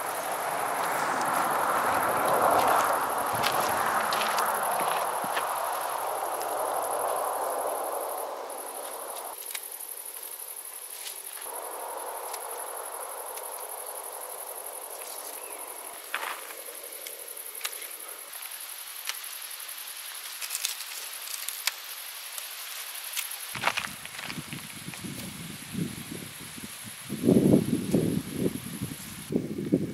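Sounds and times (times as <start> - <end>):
rustling of plant foliage: 0.0 - 27.0
crickets trilling: 0.0 - 29.9.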